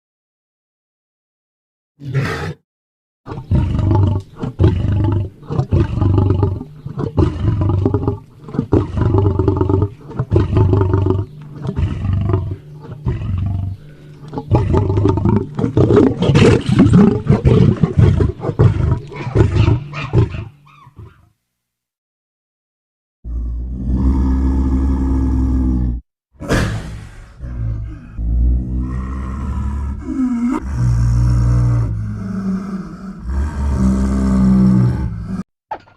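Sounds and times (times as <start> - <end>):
large animal roaring: 2.0 - 2.6, 3.3 - 21.2, 23.2 - 26.0, 27.0 - 35.5.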